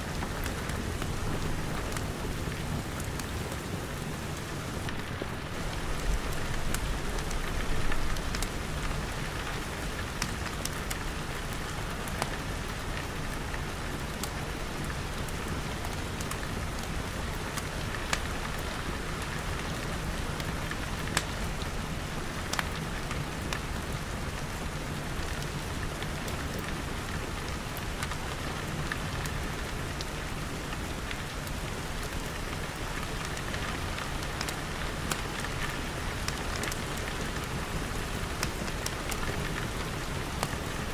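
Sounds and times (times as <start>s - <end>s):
rain on glass: 0.1s - 40.9s
wood fire crackling: 0.1s - 40.9s.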